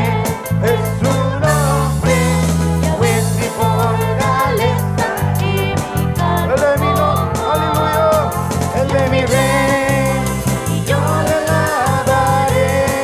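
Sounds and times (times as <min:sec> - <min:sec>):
man singing: 0:00.0 - 0:05.2, 0:06.2 - 0:13.0
bass line: 0:00.0 - 0:13.0
drum kit beat: 0:00.0 - 0:13.0
electric guitar: 0:00.0 - 0:13.0.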